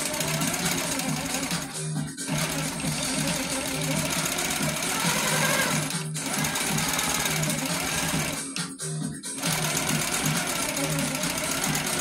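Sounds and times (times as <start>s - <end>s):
quilting machine stitching: 0.0s - 8.6s, 9.4s - 12.0s
background music: 0.0s - 12.0s.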